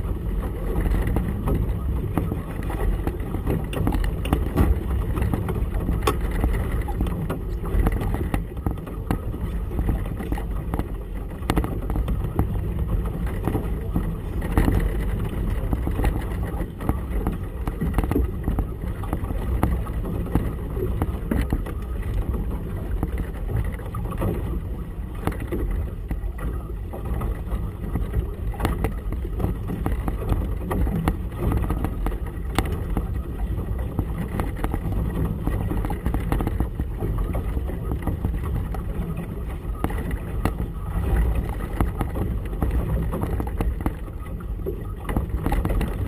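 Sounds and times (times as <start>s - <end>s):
choppy water around boat: 0.0s - 46.0s
wind rumble: 0.0s - 46.0s.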